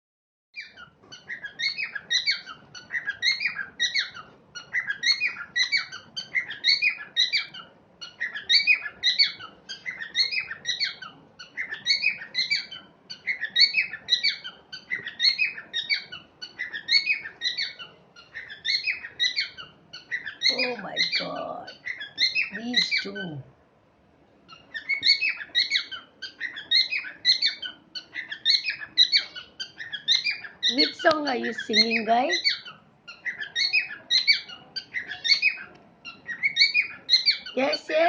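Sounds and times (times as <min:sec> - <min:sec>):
parrot chirping: 0:00.6 - 0:38.0.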